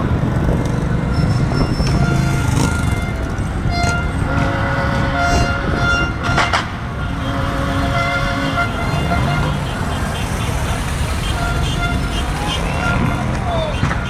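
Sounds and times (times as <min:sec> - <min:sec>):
slow traffic rumble: 0:00.0 - 0:14.0
car horns blaring: 0:01.1 - 0:14.0.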